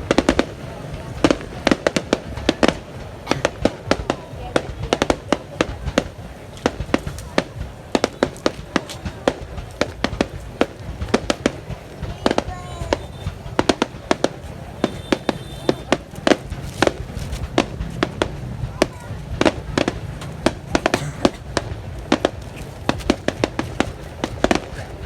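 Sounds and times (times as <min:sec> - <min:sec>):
continuous low rumble: 0:00.0 - 0:25.0
fireworks bangs and pops: 0:00.0 - 0:25.0.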